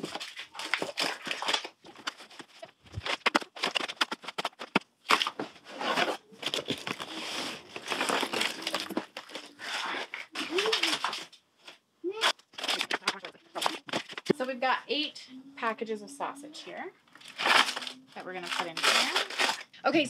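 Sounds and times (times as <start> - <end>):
frozen packs crinkling and knocking: 0.0 - 14.8, 16.7 - 19.8.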